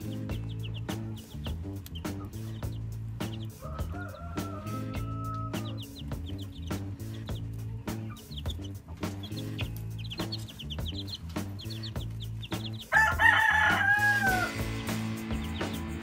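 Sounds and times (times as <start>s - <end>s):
background music with steady beat: 0.0s - 16.0s
chicks peeping: 0.0s - 16.0s.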